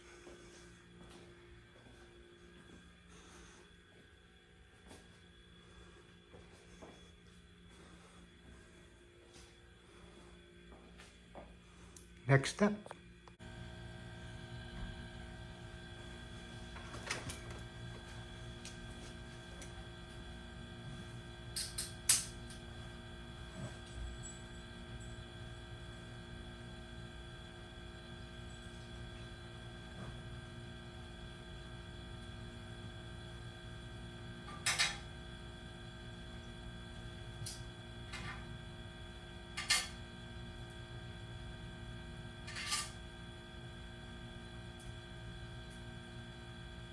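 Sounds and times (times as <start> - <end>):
steady background hum: 0.0 - 46.9.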